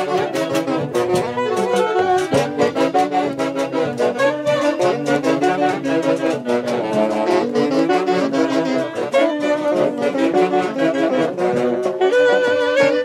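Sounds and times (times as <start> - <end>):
saxophone and brass band music: 0.0 - 13.0.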